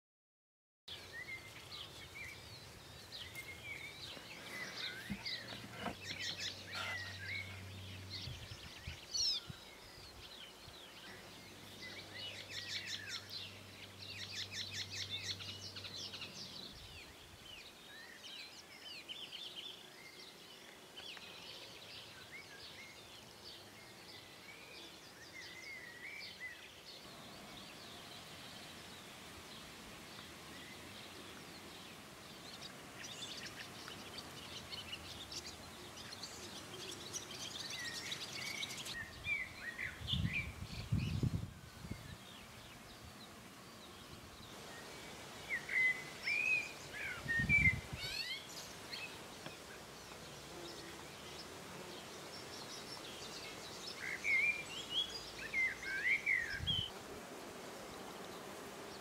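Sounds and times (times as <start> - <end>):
faint steady hiss: 0.9 - 59.0
songbirds singing and chirping: 0.9 - 59.0.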